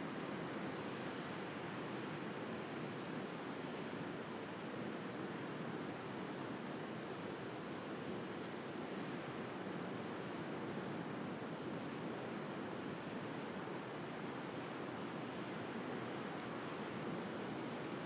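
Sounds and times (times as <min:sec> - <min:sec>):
faint bonfire crackles: 0:00.0 - 0:18.0.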